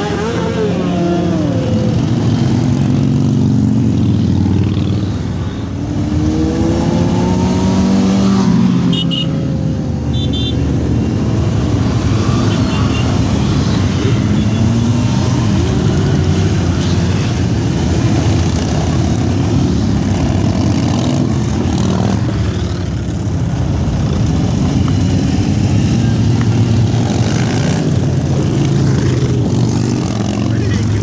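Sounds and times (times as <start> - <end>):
motorcycles riding past: 0.0 - 31.0.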